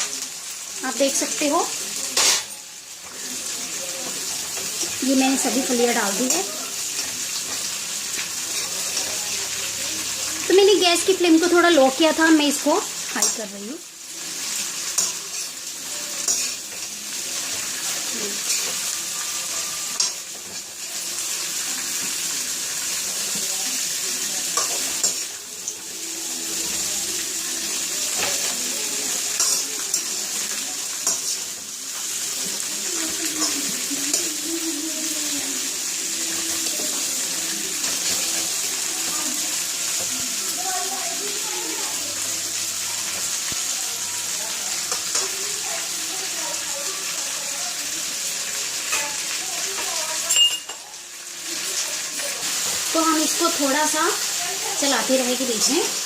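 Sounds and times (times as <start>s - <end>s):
beans sizzling in oil: 0.0s - 56.0s.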